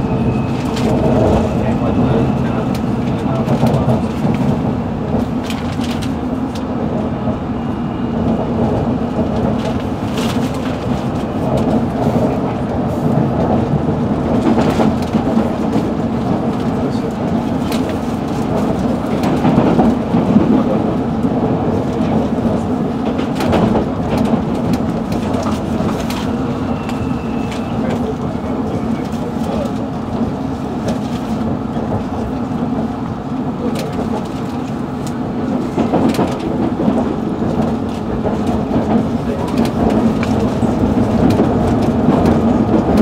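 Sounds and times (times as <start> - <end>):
underground train rumble: 0.0 - 43.0.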